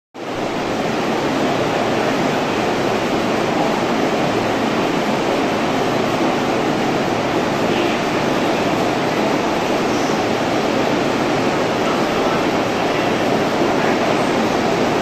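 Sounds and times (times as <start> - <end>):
idling train equipment rushing noise: 0.2 - 15.0.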